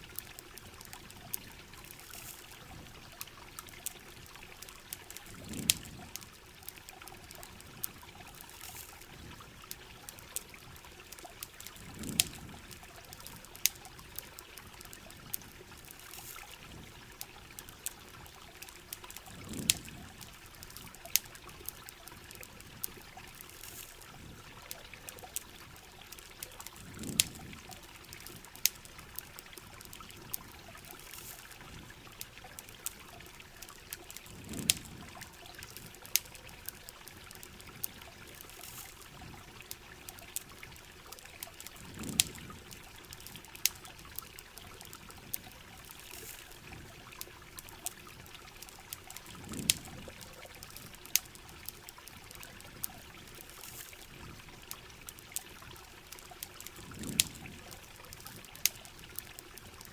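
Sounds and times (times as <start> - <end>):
campfire crackling: 0.0 - 59.9
water trickling and pouring: 0.0 - 59.9.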